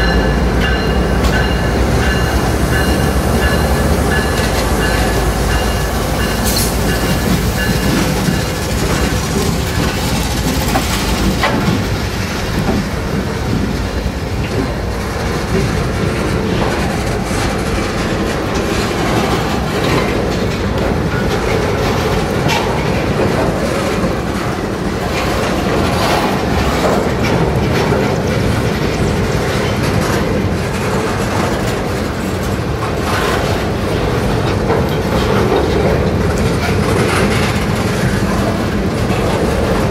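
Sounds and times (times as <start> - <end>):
diesel locomotive engine: 0.0 - 39.9
freight cars rumbling: 0.0 - 39.9
wheels clicking over rail joints: 0.0 - 39.9.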